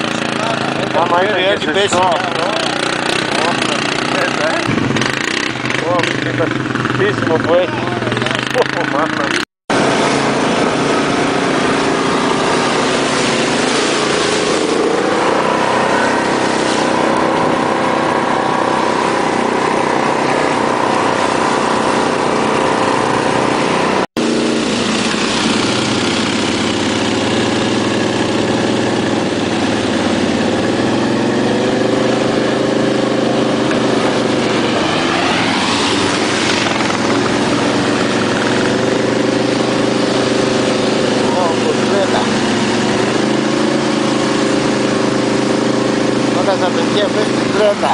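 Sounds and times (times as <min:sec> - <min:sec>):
atv engine revving: 0:00.0 - 0:47.9.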